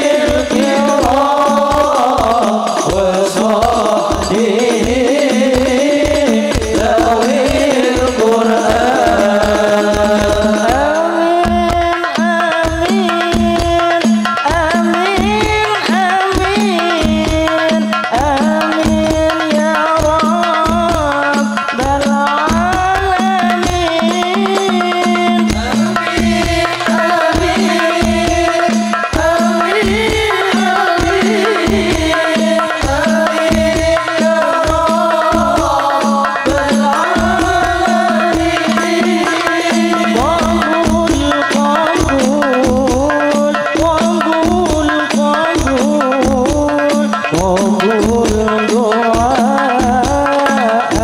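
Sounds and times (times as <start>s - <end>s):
frame drums: 0.0s - 51.0s
man singing devotional melody: 0.0s - 51.0s.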